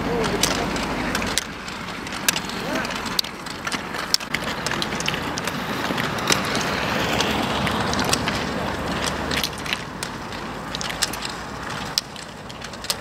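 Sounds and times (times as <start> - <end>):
pole tips clicking on pavement: 0.0 - 13.0
roller skis rolling hiss: 0.1 - 13.0.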